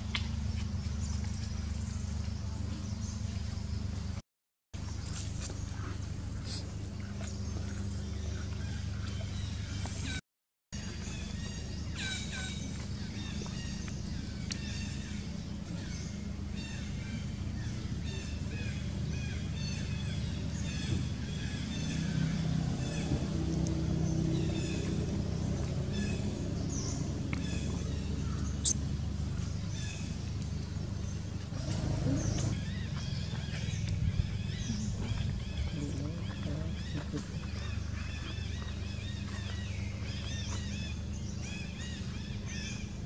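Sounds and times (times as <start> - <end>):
steady low hum: 0.0 - 4.2, 4.8 - 10.2, 10.8 - 43.0
birds chirping: 4.8 - 10.2, 10.8 - 43.0.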